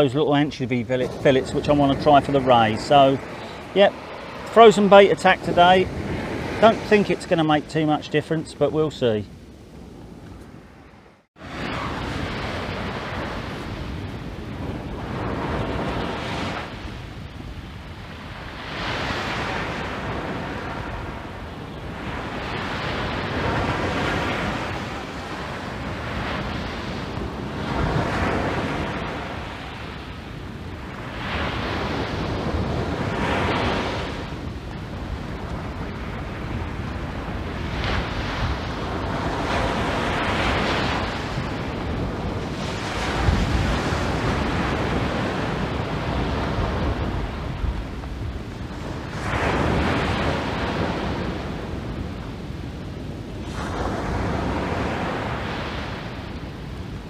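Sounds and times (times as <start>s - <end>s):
surf breaking on beach: 0.0s - 9.3s, 10.6s - 57.0s
wind buffeting microphone: 0.0s - 57.0s.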